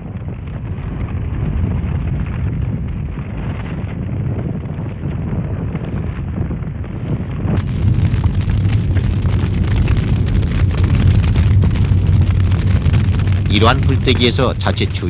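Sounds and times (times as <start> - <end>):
fire crackling: 0.0 - 15.0
fire rumbling in a kiln: 0.0 - 15.0.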